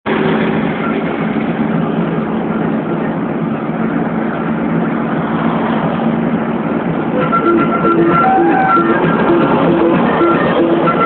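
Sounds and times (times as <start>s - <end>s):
car engine hum and road noise: 0.0s - 11.0s.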